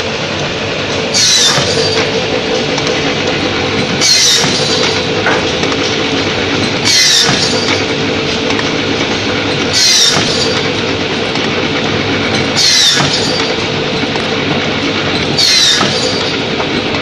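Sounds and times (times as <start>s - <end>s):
cutting machine humming: 0.0s - 16.6s.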